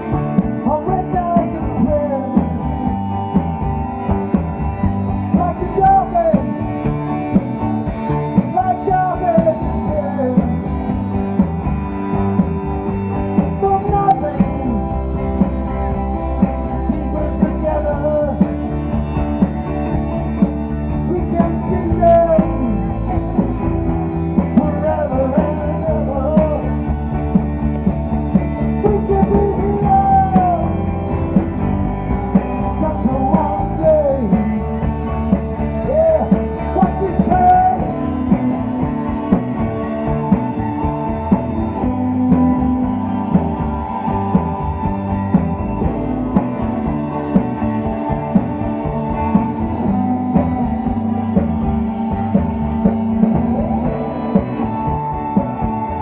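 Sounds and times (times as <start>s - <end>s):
rock band playing instrumental: 0.0s - 56.0s.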